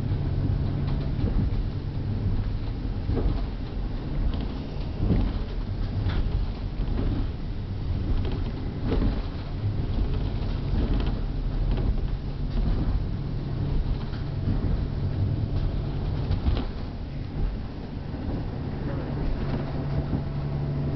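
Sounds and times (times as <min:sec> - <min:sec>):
low engine drone: 0:00.0 - 0:20.9
train rumbling on rails: 0:00.0 - 0:20.9
knocks and creaks of car body: 0:00.4 - 0:18.6.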